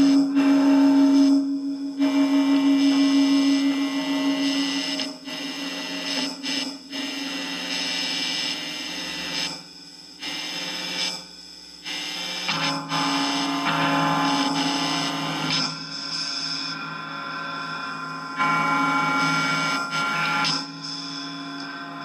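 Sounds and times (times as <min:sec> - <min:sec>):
sustained droning tones: 0:00.0 - 0:08.2, 0:12.3 - 0:22.0.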